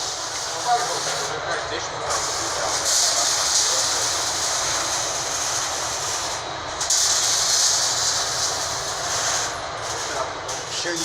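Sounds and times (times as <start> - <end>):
ventilation fan running: 0.0 - 11.0.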